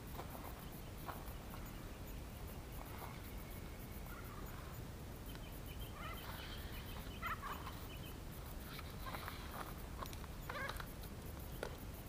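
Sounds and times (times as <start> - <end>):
birds chirping and warbling: 0.5 - 11.8.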